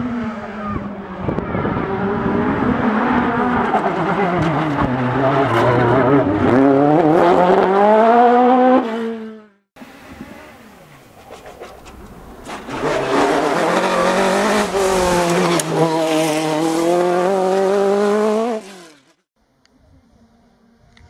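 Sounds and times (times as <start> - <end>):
race car engine accelerating: 0.0 - 19.2.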